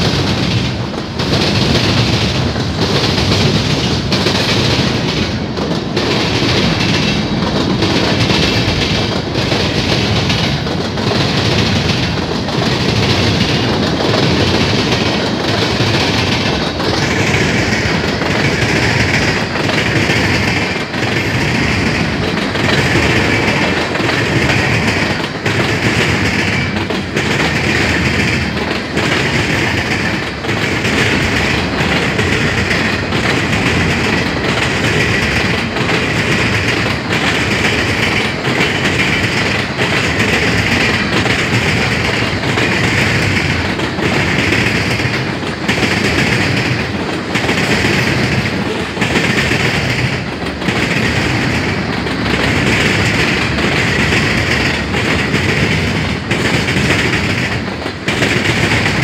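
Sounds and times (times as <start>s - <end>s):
freight train rumble: 0.0s - 59.0s
wheels clickety-clack: 0.0s - 59.0s.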